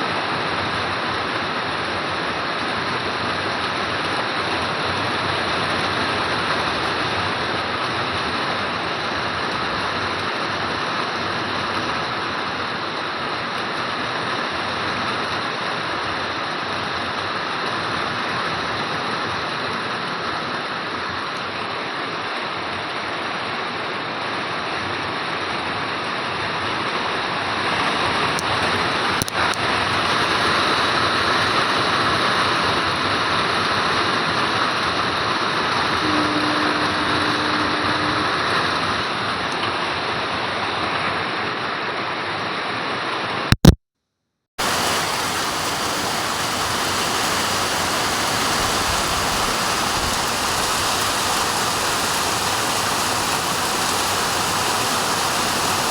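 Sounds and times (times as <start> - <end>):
heavy rain pouring: 0.0 - 41.9, 44.6 - 55.9.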